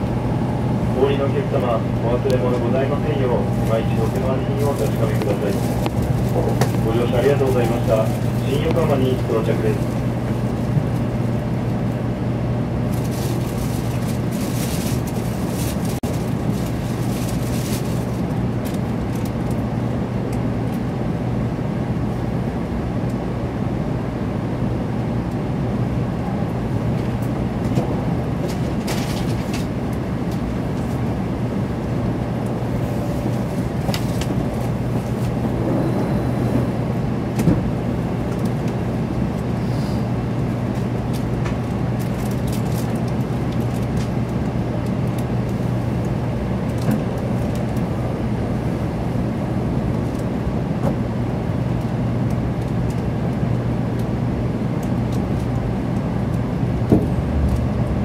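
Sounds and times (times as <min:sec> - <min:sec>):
train cabin rumble: 0:00.0 - 0:58.0.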